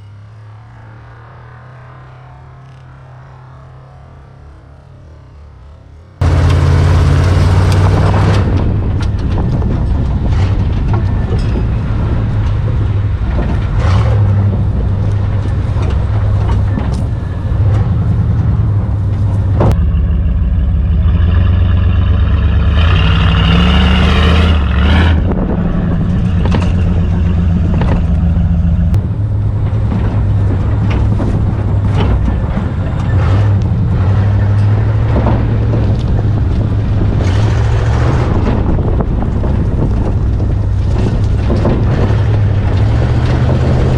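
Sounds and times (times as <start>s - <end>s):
knocks and rattles of truck: 0.0s - 43.9s
truck engine under load: 0.0s - 43.9s.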